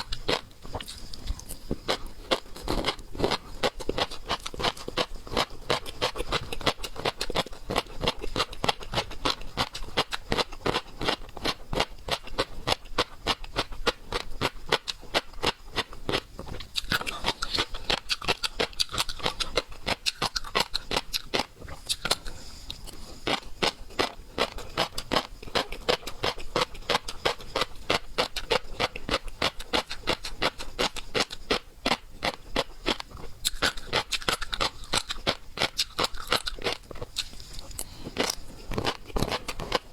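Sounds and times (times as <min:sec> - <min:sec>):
person chewing seafood: 0:00.0 - 0:39.9.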